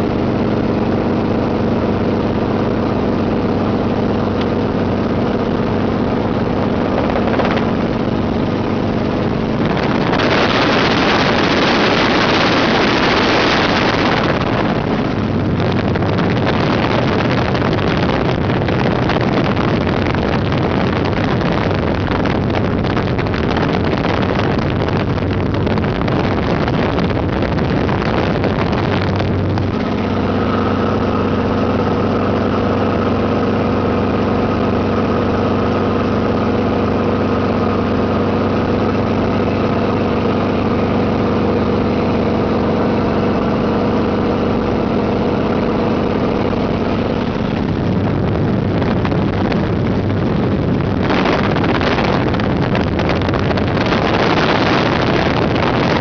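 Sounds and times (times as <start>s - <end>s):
wind buffeting microphone: 3.4s - 56.0s.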